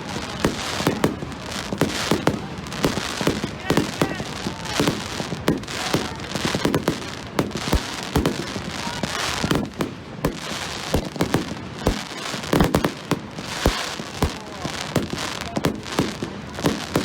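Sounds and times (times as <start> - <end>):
continuous rush of noise: 0.0 - 17.0
fireworks bangs and cracks: 0.0 - 17.0.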